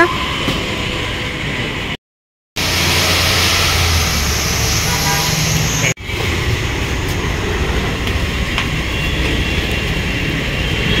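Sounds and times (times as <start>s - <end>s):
road traffic passing: 0.0s - 2.0s, 2.6s - 11.0s.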